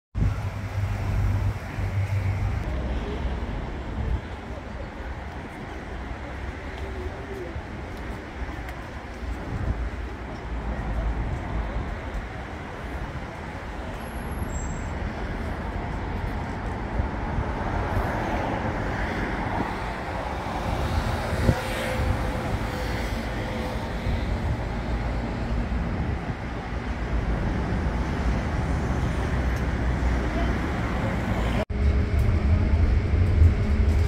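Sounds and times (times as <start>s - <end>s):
street traffic noise: 0.2s - 34.0s
tram rolling in: 0.2s - 34.0s.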